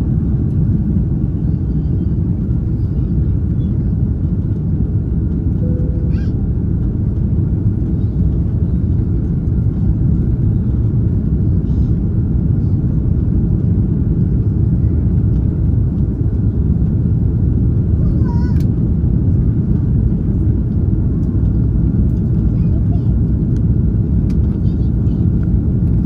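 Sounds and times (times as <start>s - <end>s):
jet engines roaring in cabin: 0.0s - 26.0s.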